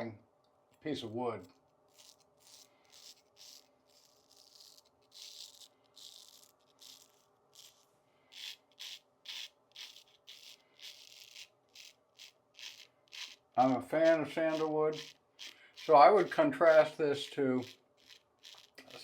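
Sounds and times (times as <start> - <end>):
straight razor scraping stubble: 1.9 - 19.0.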